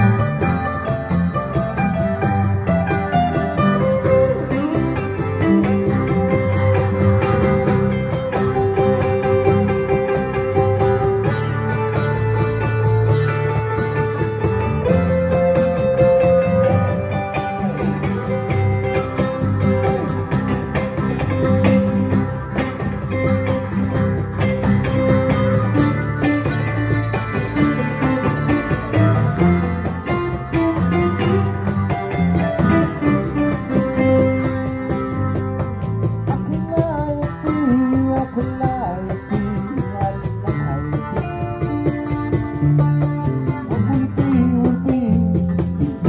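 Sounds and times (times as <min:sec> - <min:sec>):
acoustic and electric guitars: 0:00.0 - 0:46.0
steady drum beat: 0:00.0 - 0:46.0.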